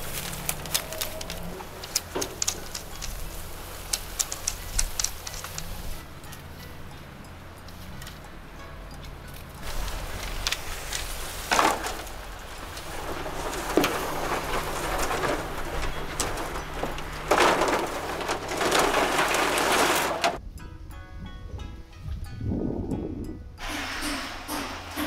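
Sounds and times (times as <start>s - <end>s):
bamboo strips rustling and clattering: 0.0s - 20.4s.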